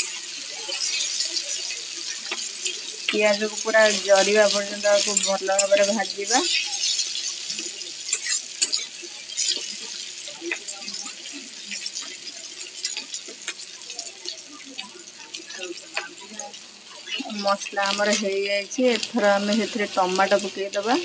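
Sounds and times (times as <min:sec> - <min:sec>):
spatula scraping a pan: 0:00.0 - 0:13.7, 0:15.4 - 0:21.0
onions sizzling in hot oil: 0:00.0 - 0:21.0.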